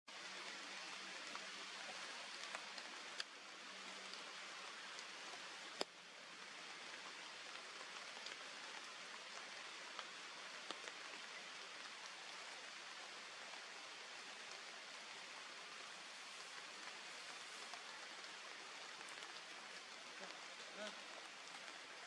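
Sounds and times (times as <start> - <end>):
outdoor hiss with rain-like patter: 0.1 - 22.0.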